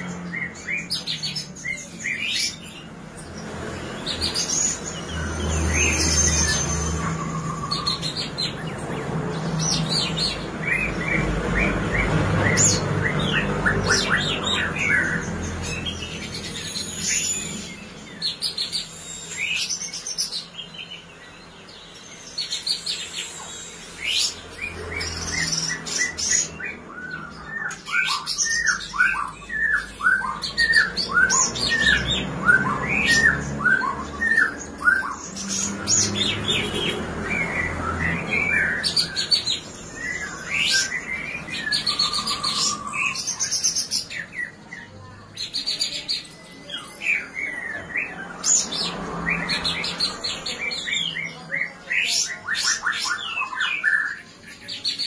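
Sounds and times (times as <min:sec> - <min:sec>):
songbird trills and whistles: 0:04.1 - 0:55.0.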